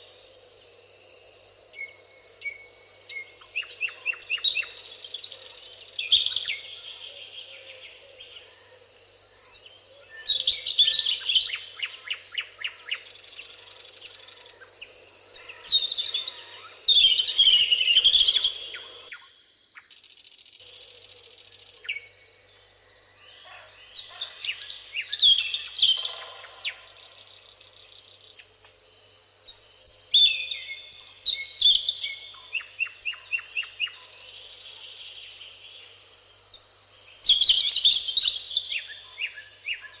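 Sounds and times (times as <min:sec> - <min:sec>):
songbirds trilling: 0:00.0 - 0:19.3, 0:20.6 - 0:40.0.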